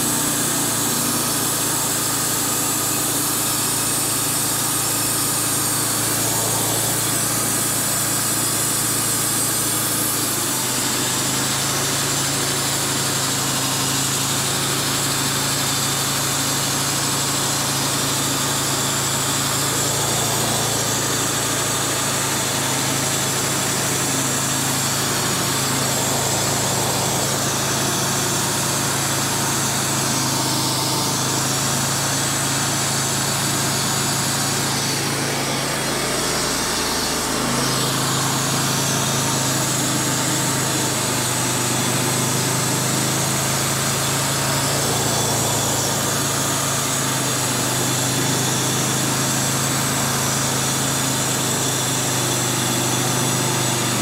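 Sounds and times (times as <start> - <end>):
bandsaw mill cutting log: 0.0 - 54.0.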